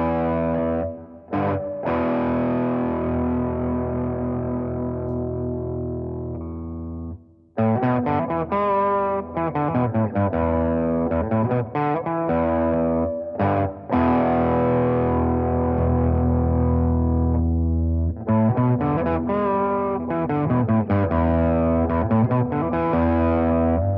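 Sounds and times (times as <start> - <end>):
distorted electric guitar chords: 0.0 - 23.9.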